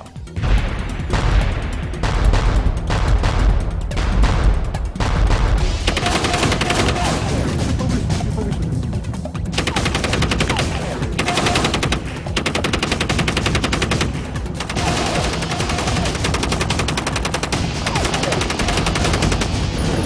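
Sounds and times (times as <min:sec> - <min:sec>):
machine gun automatic fire: 0:00.4 - 0:08.1, 0:09.5 - 0:20.0.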